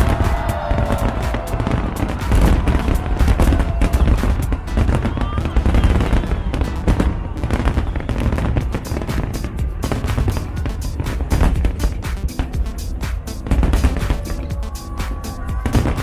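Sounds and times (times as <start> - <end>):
deep fireworks rumble: 0.0 - 16.0
fireworks cracking and banging: 0.0 - 16.0.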